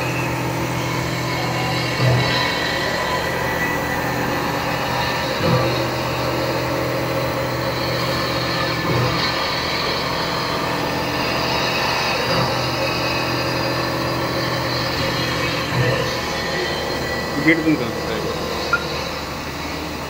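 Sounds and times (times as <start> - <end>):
milling machine cutting metal: 0.0 - 20.0.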